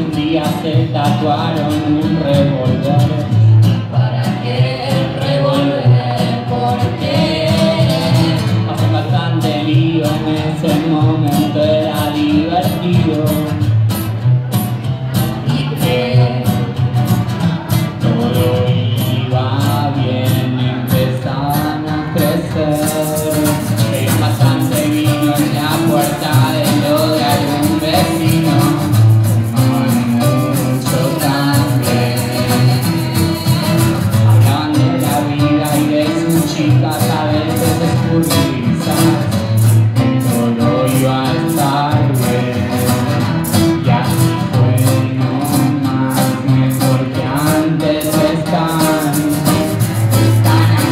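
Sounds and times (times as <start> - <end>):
person singing: 0.0 - 13.8, 15.1 - 50.9
strummed acoustic guitars: 0.0 - 50.9
upright double bass: 0.0 - 50.9.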